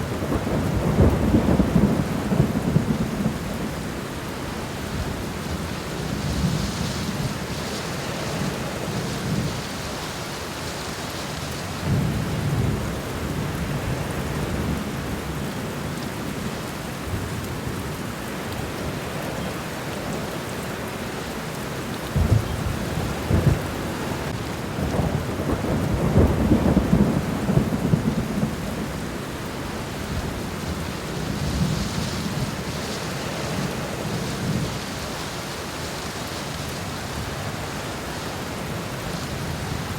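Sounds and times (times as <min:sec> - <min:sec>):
rain falling on ground: 0:00.0 - 0:39.9.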